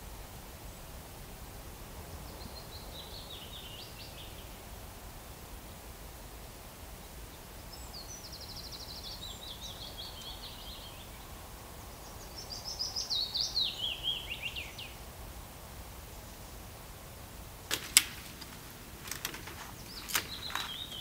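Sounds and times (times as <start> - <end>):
low background noise: 0.0 - 21.0
songbird singing: 1.7 - 5.5, 6.1 - 21.0.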